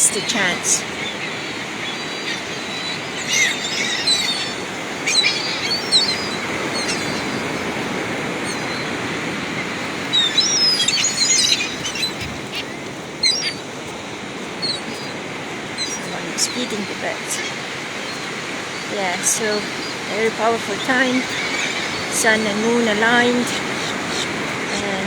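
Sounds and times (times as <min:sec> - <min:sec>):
beach surf: 0:00.0 - 0:25.0
birds squealing and chirping: 0:00.0 - 0:25.0.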